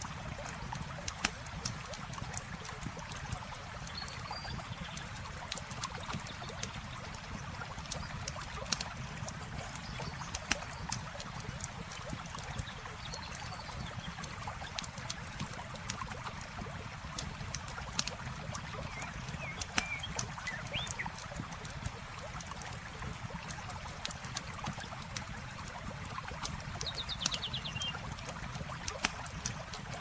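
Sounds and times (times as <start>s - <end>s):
campfire crackling and popping: 0.0s - 13.3s, 14.2s - 30.0s
river water flowing: 0.0s - 30.0s.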